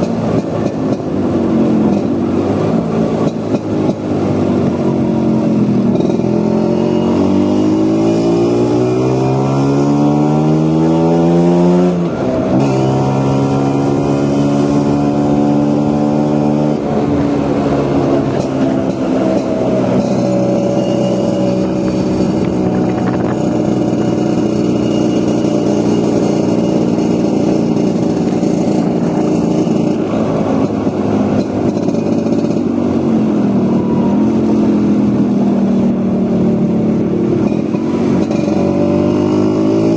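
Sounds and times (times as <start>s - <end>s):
road and wind noise: 0.0s - 39.9s
scooter engine accelerating: 0.0s - 39.9s.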